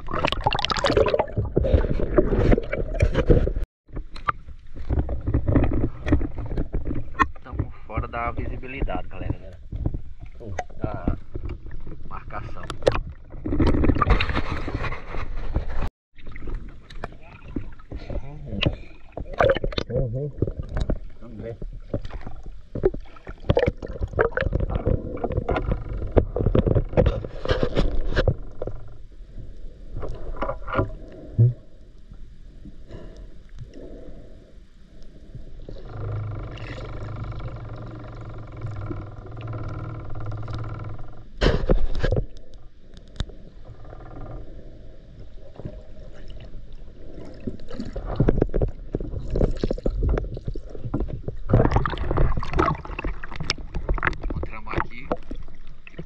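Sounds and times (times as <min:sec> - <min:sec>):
water splashing and sloshing: 0:00.0 - 0:56.0.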